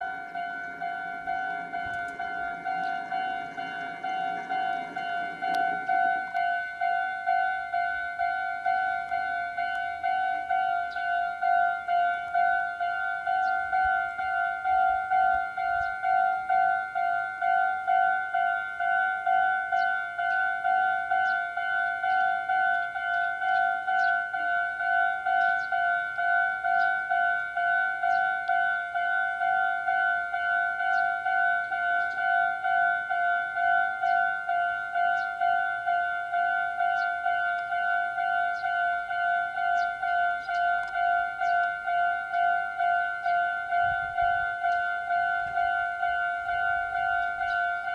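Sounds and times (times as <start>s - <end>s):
level crossing warning bell: 0.0s - 47.9s.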